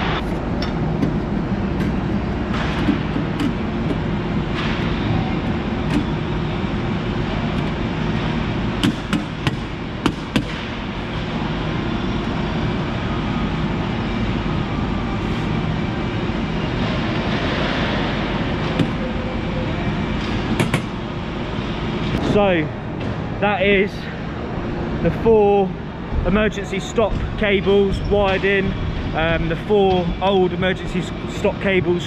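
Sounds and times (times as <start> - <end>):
industrial machinery humming: 0.0 - 32.0.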